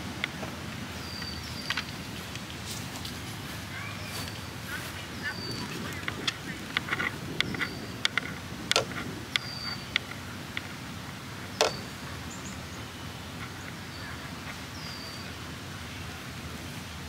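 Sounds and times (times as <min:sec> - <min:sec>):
outdoor hush: 0:00.0 - 0:17.0.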